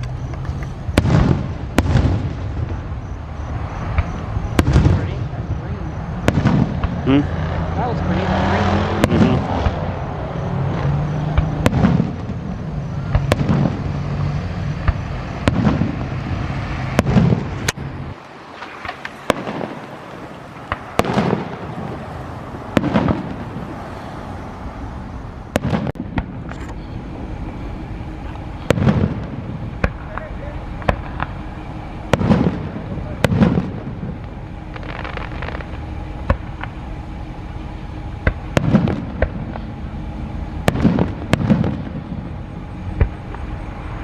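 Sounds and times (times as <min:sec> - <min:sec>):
fireworks bangs: 0:00.0 - 0:44.0
fireworks crackling: 0:00.0 - 0:44.0.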